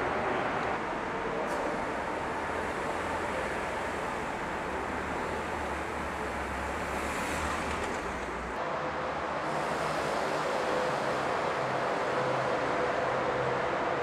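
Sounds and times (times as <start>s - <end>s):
car engine and tyres rushing: 0.0s - 14.0s.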